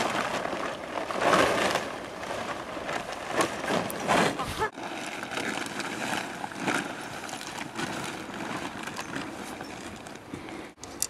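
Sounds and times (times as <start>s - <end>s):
tent fabric rustling: 0.0s - 10.8s.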